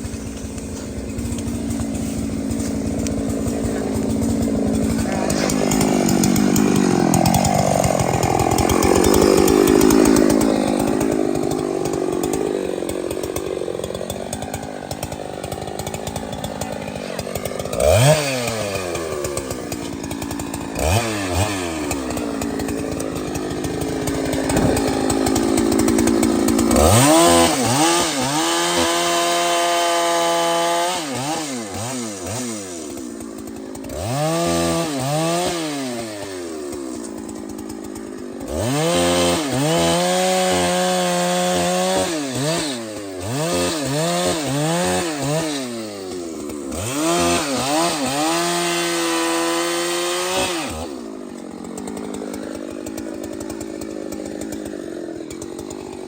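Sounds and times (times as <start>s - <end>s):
chainsaw cutting a tree: 0.0s - 56.0s.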